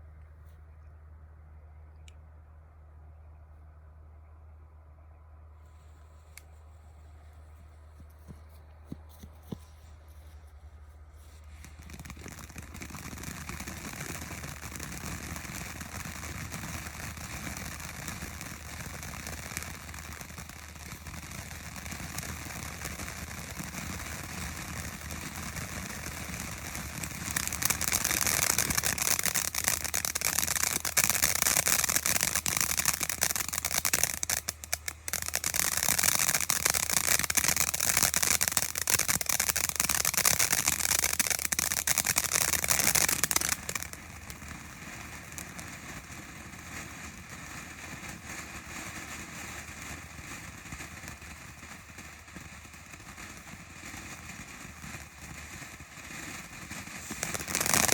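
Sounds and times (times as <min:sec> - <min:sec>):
fountain firework hissing: 0:11.4 - 0:57.9.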